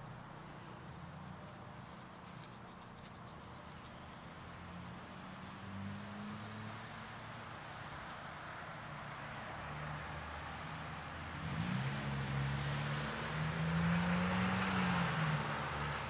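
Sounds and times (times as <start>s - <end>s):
squirrel gnawing at a nut: 0.0s - 16.0s.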